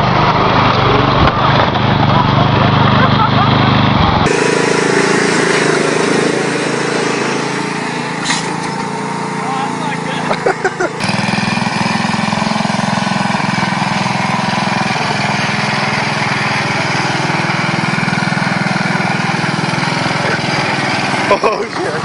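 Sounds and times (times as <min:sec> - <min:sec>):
small tractor engine running: 0:00.0 - 0:22.0.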